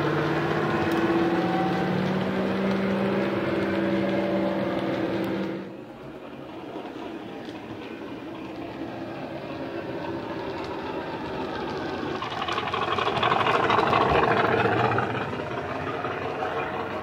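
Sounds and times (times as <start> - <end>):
faint clicking of wheels on track: 0.0 - 17.0
model locomotive diesel engine sound: 0.0 - 17.0.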